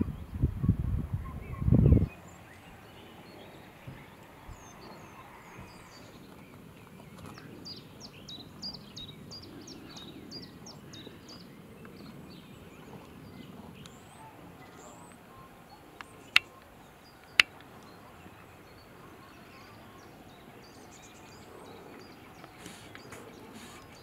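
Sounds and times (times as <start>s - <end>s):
faint background noise: 0.0s - 24.0s
small birds chirping: 0.0s - 24.0s.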